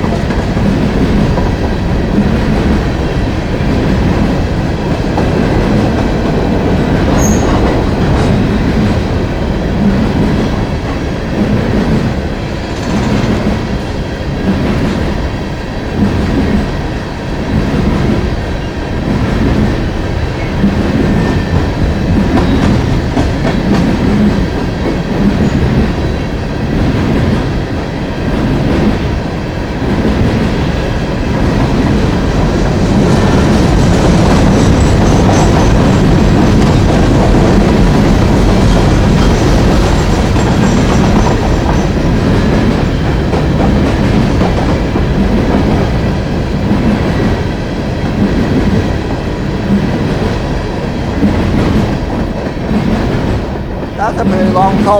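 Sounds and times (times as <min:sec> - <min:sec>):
train wheels clattering over rail joints: 0:00.0 - 0:15.2, 0:19.0 - 0:29.0, 0:29.8 - 0:54.9
heavy train rumble: 0:00.0 - 0:54.9.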